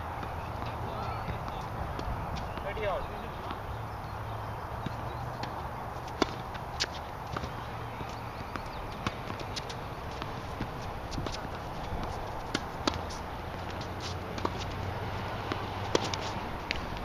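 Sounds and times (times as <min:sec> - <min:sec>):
tennis balls struck by rackets: 0:00.0 - 0:17.0
balls bouncing on hard court: 0:00.1 - 0:03.7, 0:04.7 - 0:17.0.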